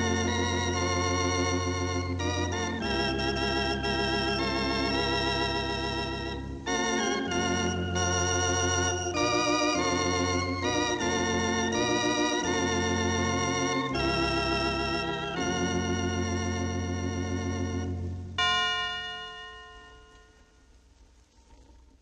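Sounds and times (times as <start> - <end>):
solo organ playing: 0.0 - 20.5.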